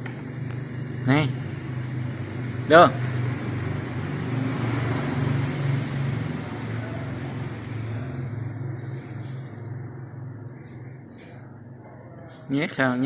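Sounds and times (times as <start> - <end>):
vehicle engine running: 0.0 - 12.5
traffic noise: 0.0 - 13.0.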